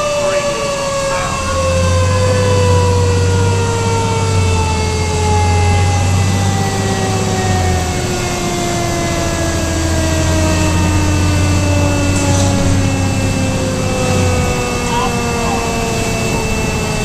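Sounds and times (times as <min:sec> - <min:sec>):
diesel engine drone: 0:00.0 - 0:17.0
siren whine falling in pitch: 0:00.0 - 0:17.0.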